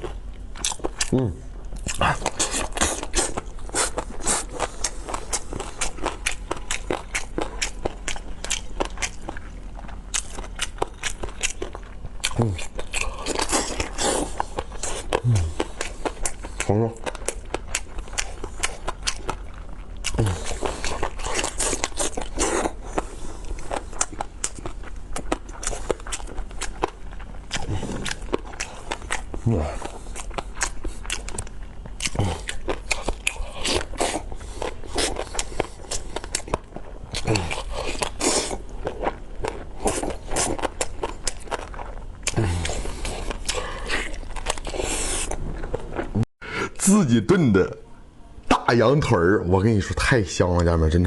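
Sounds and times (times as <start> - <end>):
person chewing with lip smacks: 0.0 - 46.2.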